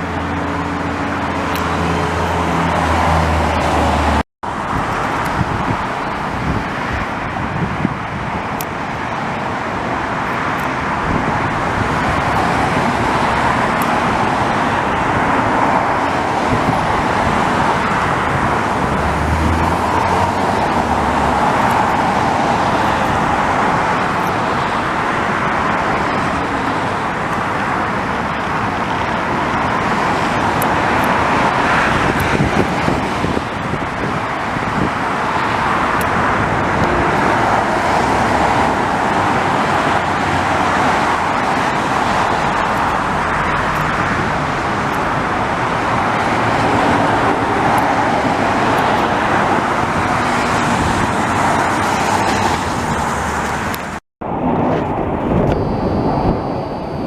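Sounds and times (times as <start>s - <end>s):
road traffic roar: 0.0s - 57.0s.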